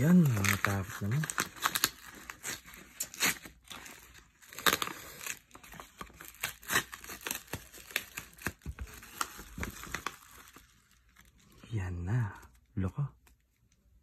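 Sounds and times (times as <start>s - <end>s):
paper mailer crinkling and tearing: 0.0s - 11.4s.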